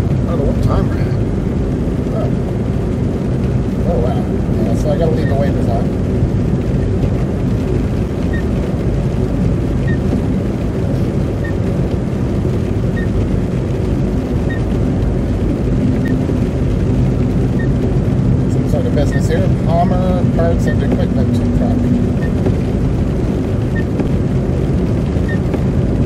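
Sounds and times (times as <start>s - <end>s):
tyre and engine rumble inside car: 0.0s - 26.0s.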